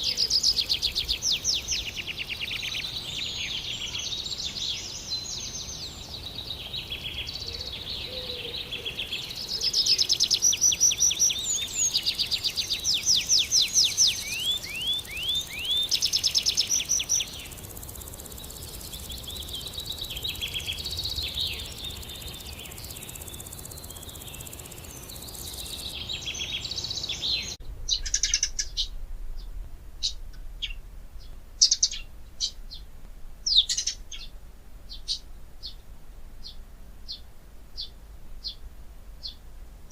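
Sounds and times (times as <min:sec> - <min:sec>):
birds singing and chirping: 0:00.0 - 0:34.3, 0:34.9 - 0:35.8
steady background hiss: 0:00.0 - 0:39.9.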